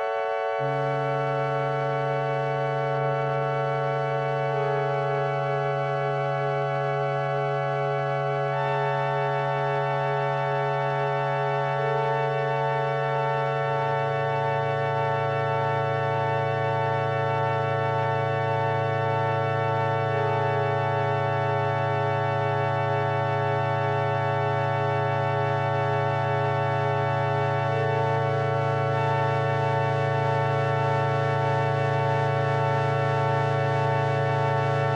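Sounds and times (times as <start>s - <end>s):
droning organ-like keyboard chord: 0.0s - 34.9s.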